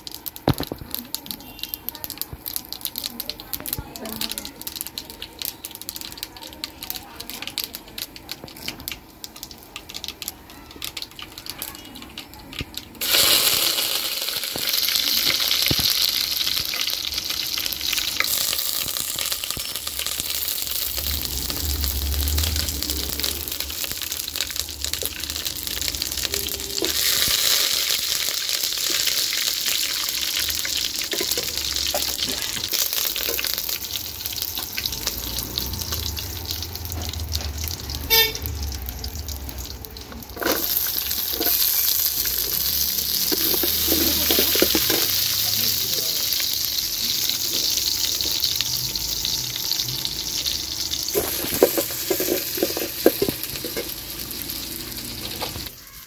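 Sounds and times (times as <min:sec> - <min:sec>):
leaves sizzling in hot oil: 0:00.0 - 0:56.0
mustard seeds crackling in oil: 0:00.0 - 0:56.0.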